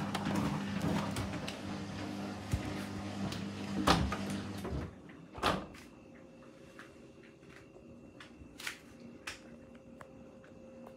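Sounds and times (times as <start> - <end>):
washing machine hum: 0.0 - 10.9.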